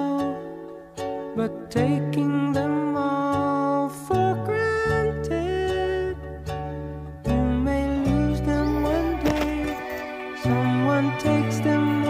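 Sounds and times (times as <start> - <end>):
slow music with held chords: 0.0 - 12.0.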